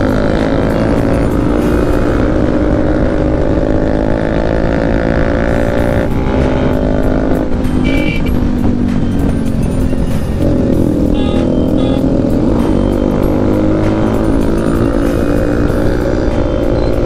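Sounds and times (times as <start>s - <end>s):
background music: 0.0s - 17.0s
motorcycle engine running: 0.0s - 17.0s.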